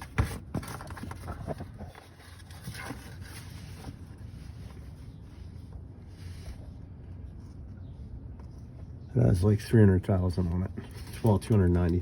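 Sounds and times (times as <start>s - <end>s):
clicks and rustles of handling: 0.0s - 9.0s, 10.3s - 12.0s
steady low hum: 0.0s - 12.0s.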